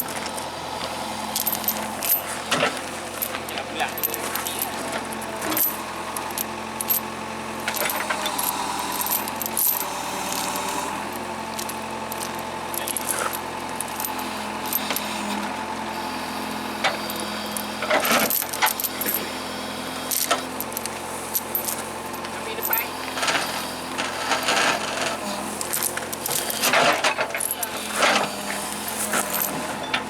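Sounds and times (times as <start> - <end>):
metallic clinks and rattles: 0.0 - 15.6, 16.8 - 30.0
heavy diesel machinery running: 0.0 - 30.0.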